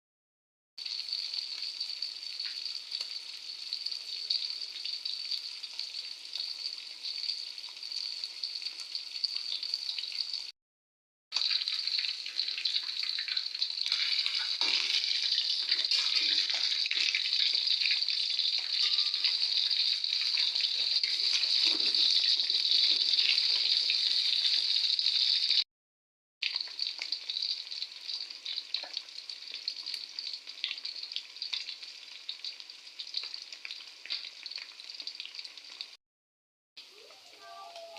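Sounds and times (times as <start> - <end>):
fish frying in hot oil: 0.8 - 10.6, 11.3 - 25.7, 26.4 - 36.0.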